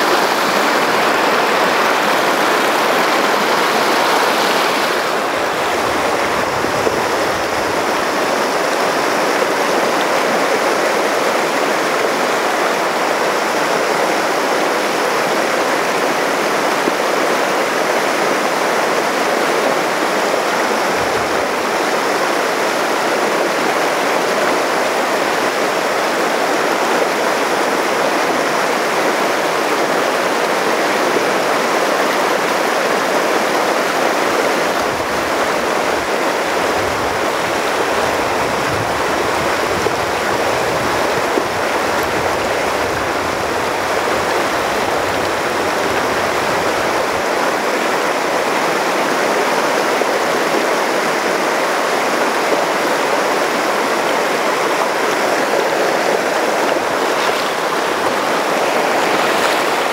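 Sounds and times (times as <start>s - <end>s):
river water rushing over boulders: 0.0s - 59.9s.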